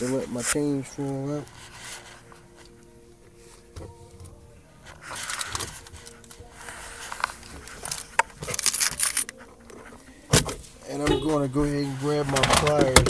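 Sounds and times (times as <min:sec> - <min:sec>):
faint music: 0:00.0 - 0:13.0.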